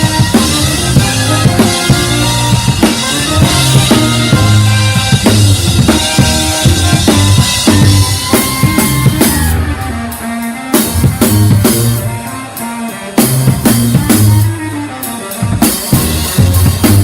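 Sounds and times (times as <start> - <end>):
brass band playing: 0.0 - 17.0
drum kit beat: 0.0 - 17.0.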